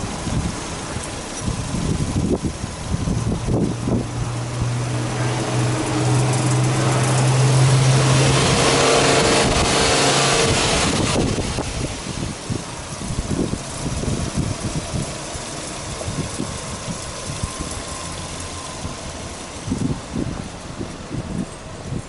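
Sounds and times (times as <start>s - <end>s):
car engine revving: 0.0s - 21.5s.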